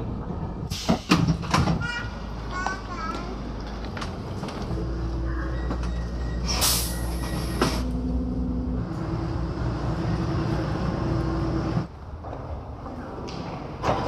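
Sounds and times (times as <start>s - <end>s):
metro train rumble: 0.0s - 14.0s.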